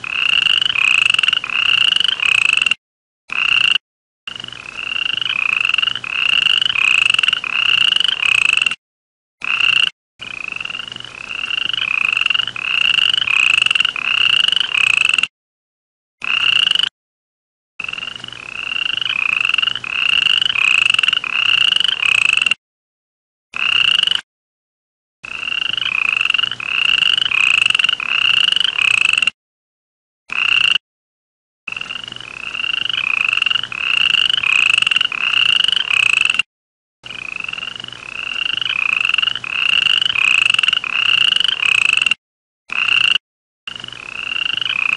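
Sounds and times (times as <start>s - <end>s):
frogs croaking: 0.0s - 8.8s, 9.4s - 15.3s, 16.2s - 16.9s, 17.8s - 22.6s, 23.6s - 24.2s, 25.3s - 29.4s, 30.3s - 30.8s, 31.7s - 36.4s, 37.1s - 44.9s.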